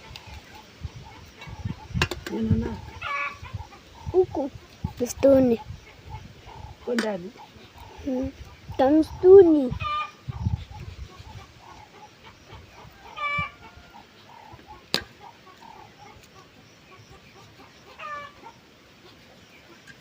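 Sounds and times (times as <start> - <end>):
chickens squawking: 0.0 - 20.0.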